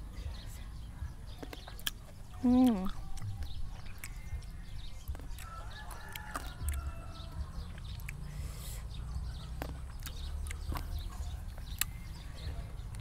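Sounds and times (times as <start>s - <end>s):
chickens calling: 1.5s - 13.0s.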